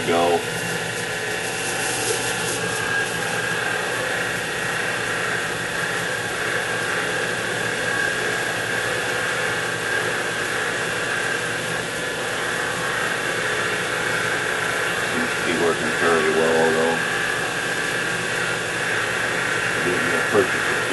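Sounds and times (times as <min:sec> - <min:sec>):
drill bit cutting aluminium: 0:00.0 - 0:20.9
mill spindle motor whine: 0:00.0 - 0:20.9.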